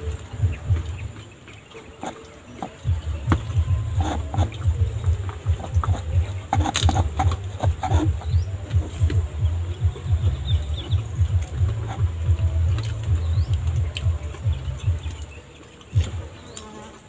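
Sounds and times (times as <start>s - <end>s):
chewing and munching: 0.0s - 17.0s.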